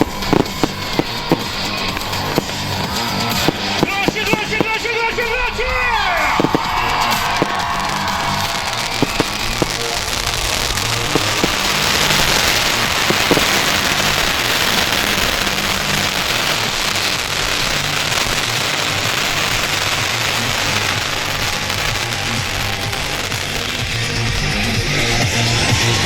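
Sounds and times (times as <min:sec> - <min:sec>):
bonfire crackling and hissing: 0:00.0 - 0:26.0
music playing: 0:00.0 - 0:26.0.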